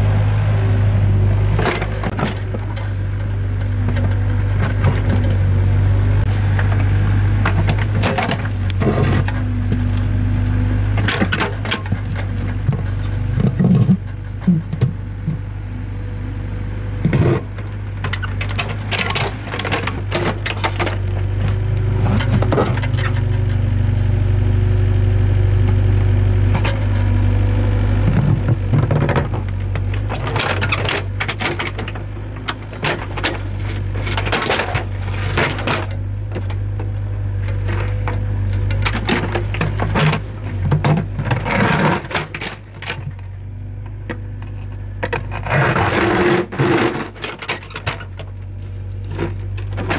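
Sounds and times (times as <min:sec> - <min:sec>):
excavator diesel engine running: 0:00.0 - 0:49.9
digging knocks and clatters: 0:01.4 - 0:15.7, 0:17.0 - 0:23.8, 0:28.0 - 0:49.9.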